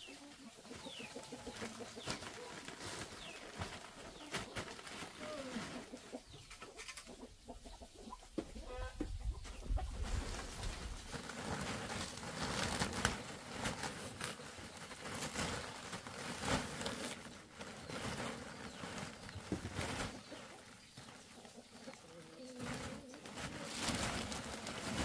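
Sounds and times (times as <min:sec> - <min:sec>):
plastic bags rustling and crinkling: 0:00.0 - 0:06.8, 0:09.5 - 0:25.0.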